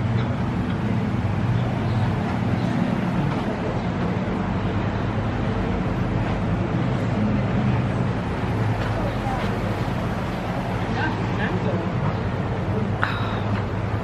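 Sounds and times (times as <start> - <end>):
constant rushing noise: 0.0 - 14.0.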